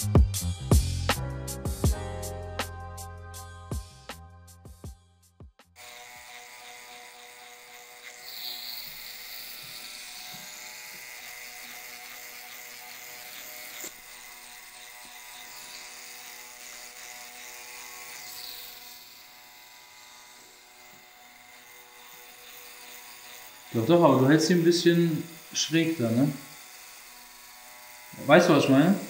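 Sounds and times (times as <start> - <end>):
tattoo machine buzzing: 5.7 - 29.0.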